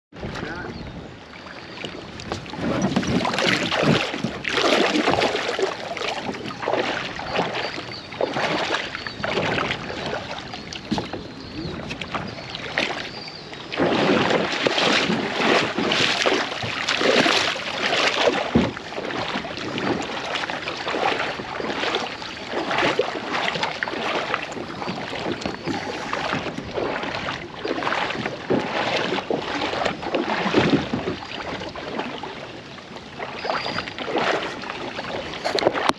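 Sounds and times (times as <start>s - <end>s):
paddle strokes splashing water: 0.1s - 35.9s.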